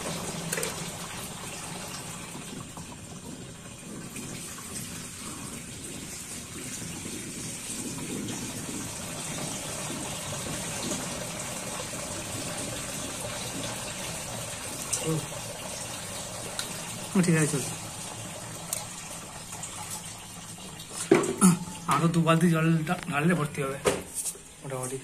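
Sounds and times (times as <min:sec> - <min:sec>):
water pouring into plastic tank: 0:00.0 - 0:23.9.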